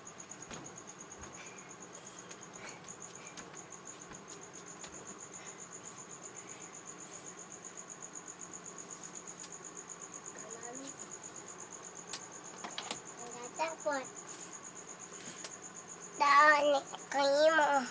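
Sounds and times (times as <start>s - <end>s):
cricket chirping: 0.0s - 17.9s.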